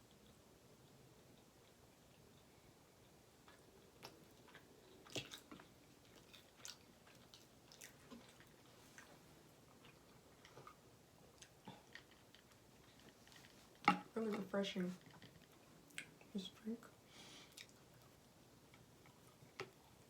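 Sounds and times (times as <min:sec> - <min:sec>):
person chewing food: 0:00.1 - 0:13.8, 0:15.0 - 0:16.3, 0:17.2 - 0:20.0.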